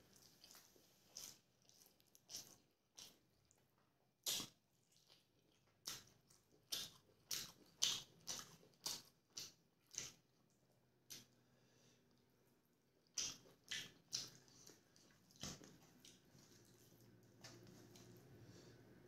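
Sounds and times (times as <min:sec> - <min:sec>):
wet chewing of food: 0:00.0 - 0:19.0.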